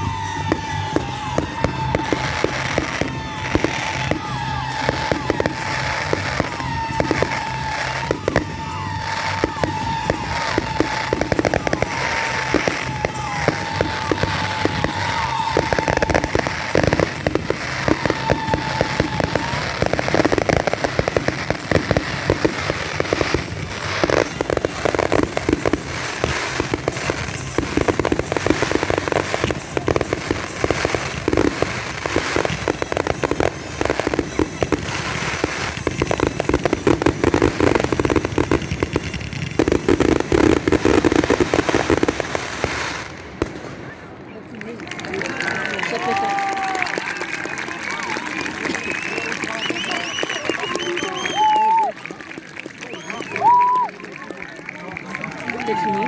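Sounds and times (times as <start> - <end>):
firework whistles: 0.0 - 44.4, 45.5 - 54.0
fireworks bangs and crackling: 0.0 - 56.0.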